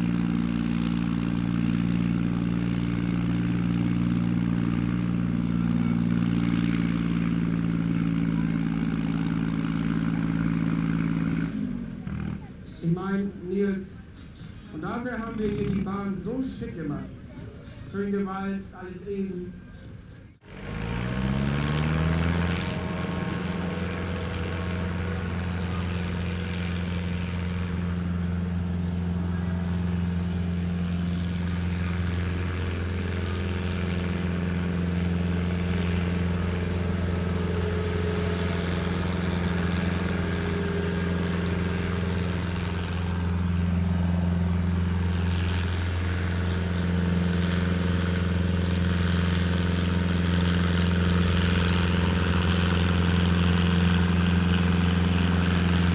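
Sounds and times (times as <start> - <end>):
tractor engine running hard: 0.0 - 55.9.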